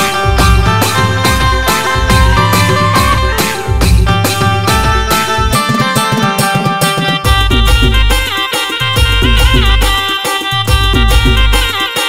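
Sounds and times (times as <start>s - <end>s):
dance music with heavy bass: 0.0s - 12.0s.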